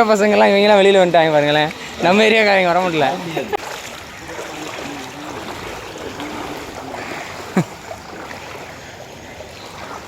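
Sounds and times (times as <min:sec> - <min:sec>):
water sloshing and trickling: 0:00.0 - 0:10.0.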